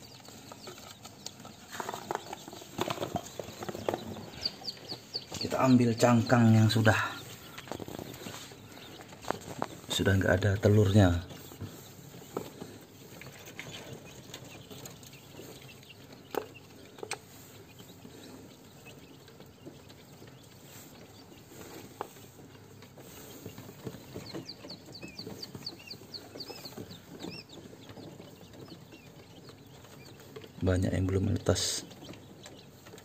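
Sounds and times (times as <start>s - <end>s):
quail chicks peeping: 0.0s - 33.0s.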